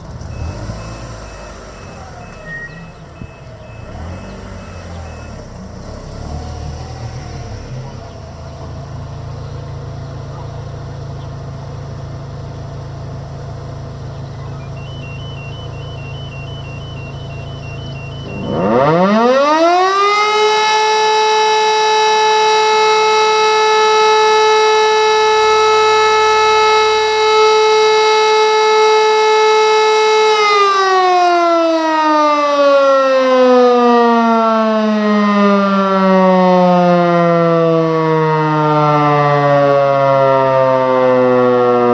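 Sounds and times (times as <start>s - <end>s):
mast siren howling: 0.0s - 8.1s, 14.6s - 41.9s.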